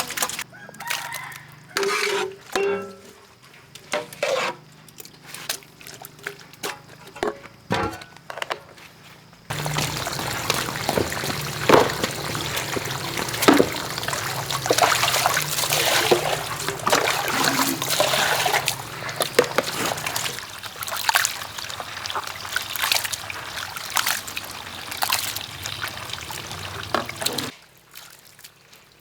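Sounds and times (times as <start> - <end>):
water splashing and trickling: 0.0 - 2.2, 4.8 - 7.7, 9.5 - 29.0.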